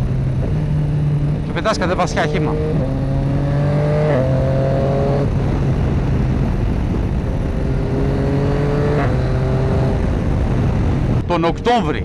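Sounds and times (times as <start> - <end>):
motorcycle engine running: 0.0 - 11.2
wind rush: 0.0 - 12.0.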